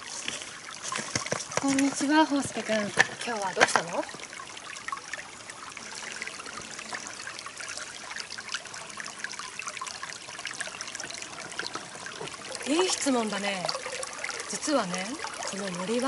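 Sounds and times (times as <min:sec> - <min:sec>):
stream trickling over stones: 0:00.0 - 0:16.0.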